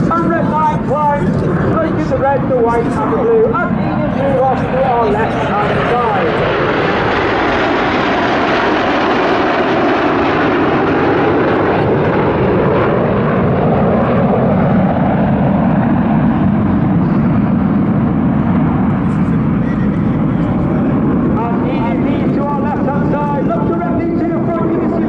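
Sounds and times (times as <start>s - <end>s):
jets flying past: 0.0s - 25.0s.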